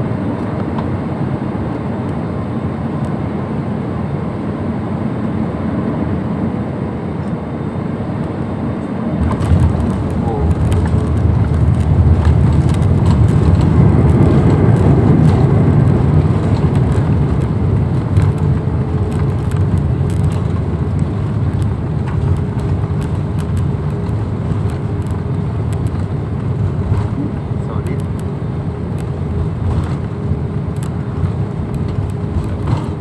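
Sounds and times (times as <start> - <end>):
aircraft cabin rumble: 0.0 - 33.0.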